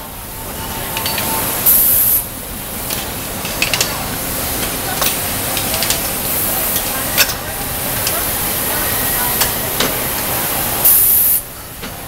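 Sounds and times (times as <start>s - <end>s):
steady hiss of factory machinery: 0.0s - 12.0s.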